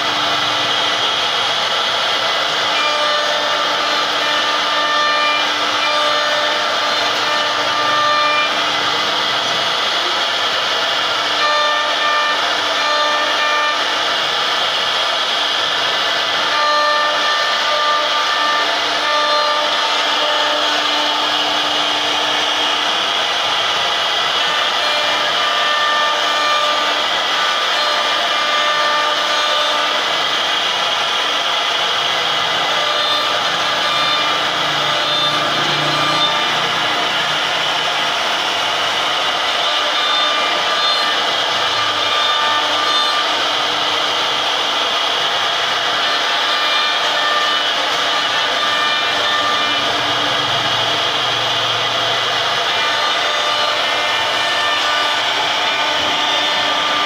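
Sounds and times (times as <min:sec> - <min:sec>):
router spindle whirring: 0:00.0 - 0:57.0.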